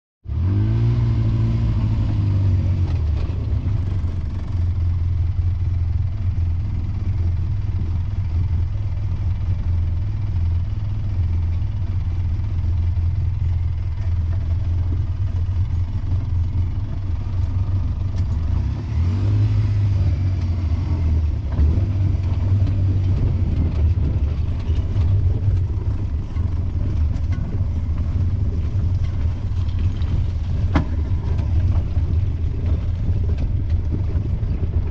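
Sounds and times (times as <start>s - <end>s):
vehicle engine running: 0.3s - 34.9s.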